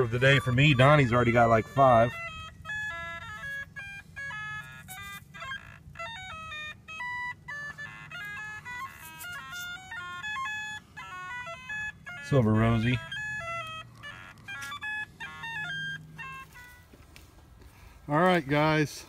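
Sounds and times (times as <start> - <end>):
bright synthesised melody: 0.0 - 17.1.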